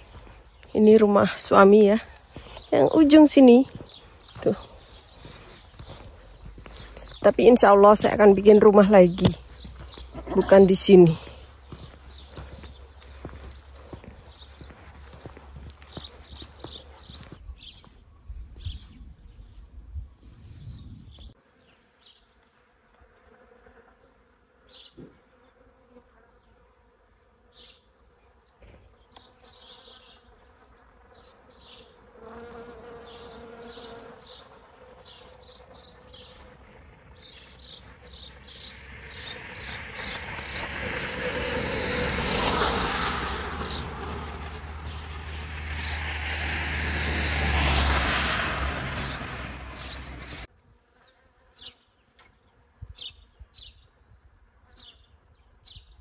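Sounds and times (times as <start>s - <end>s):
bee buzzing: 0.0s - 17.4s, 21.4s - 53.8s, 54.5s - 55.8s.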